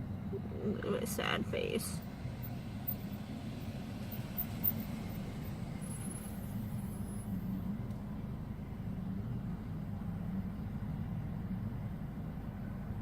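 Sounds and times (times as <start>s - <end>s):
car engine humming: 0.0s - 12.7s.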